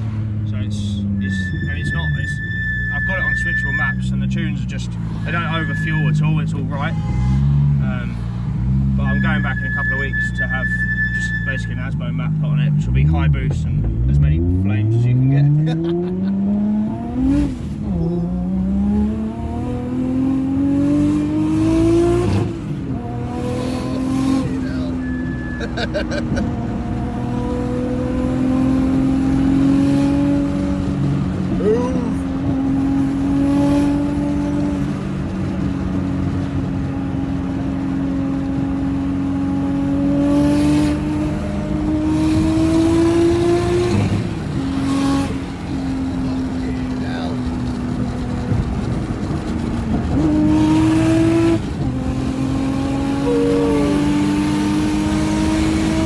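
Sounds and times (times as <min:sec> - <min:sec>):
car engine accelerating with gear shifts: 0:00.0 - 0:56.0.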